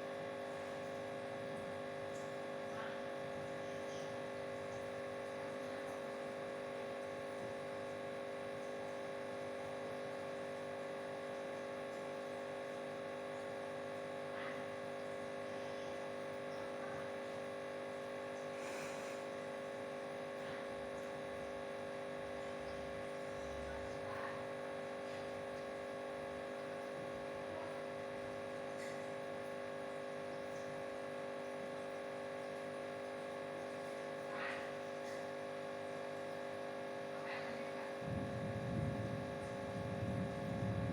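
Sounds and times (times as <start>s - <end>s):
electrical hum: 0.0s - 40.9s.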